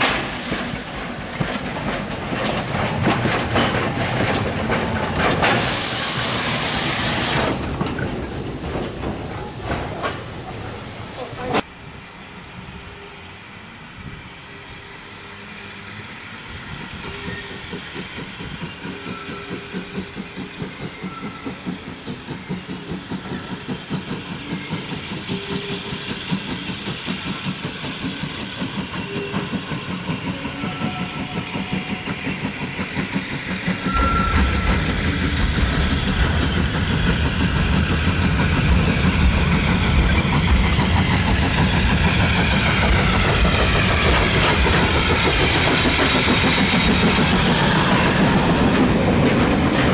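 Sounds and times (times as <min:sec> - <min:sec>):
steam locomotive chuffing: 0:00.0 - 0:11.7, 0:14.0 - 0:49.9
deep train rumble: 0:00.0 - 0:49.9.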